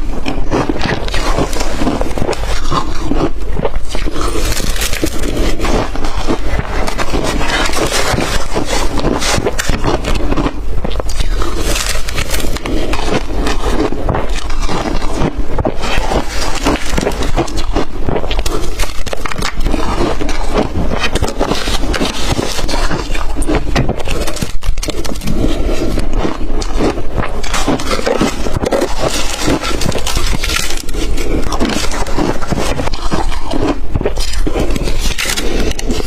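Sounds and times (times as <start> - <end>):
chewing crushed ice: 0.0 - 36.0.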